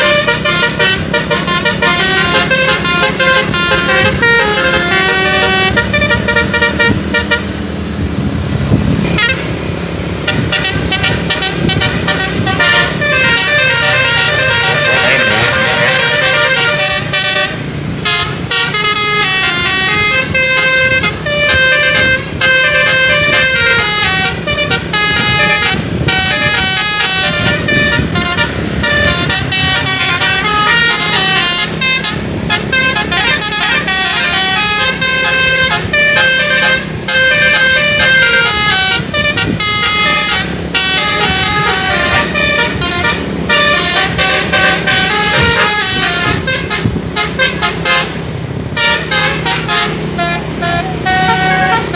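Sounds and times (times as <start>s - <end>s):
musical air horn melody: 0.0s - 7.7s, 9.0s - 9.6s, 10.2s - 51.9s
bus engine running: 0.0s - 51.9s.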